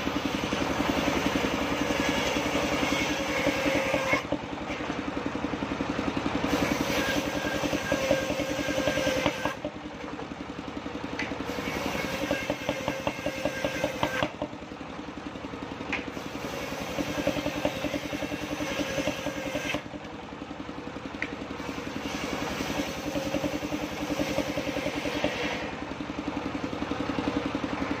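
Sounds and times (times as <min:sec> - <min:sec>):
sawmill engine chugging: 0:00.0 - 0:28.0.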